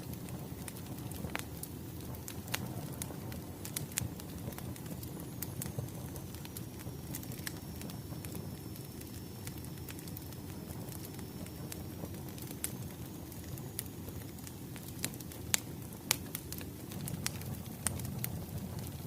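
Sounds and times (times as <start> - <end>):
firewood crackles and pops: 0.0 - 19.0
low rumble of flames: 0.0 - 19.0.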